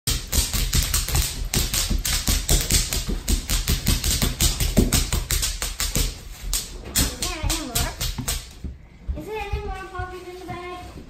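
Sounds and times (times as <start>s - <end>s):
feet thudding on floor: 0.1s - 10.2s.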